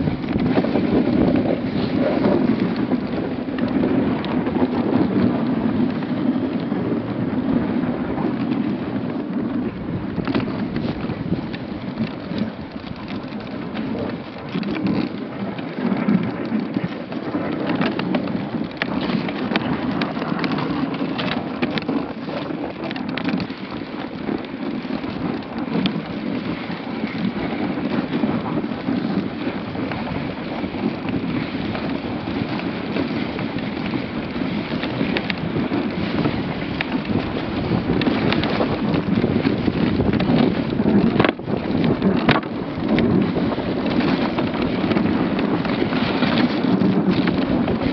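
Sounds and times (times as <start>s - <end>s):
sled knocking and rattling: 0.0s - 47.9s
sled runners rushing over snow: 0.0s - 47.9s.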